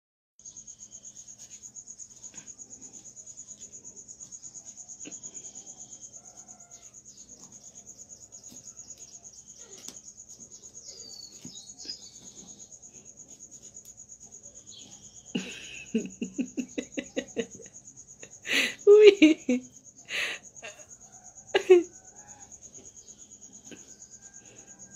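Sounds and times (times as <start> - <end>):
insect pulsing trill: 0.4 - 24.9.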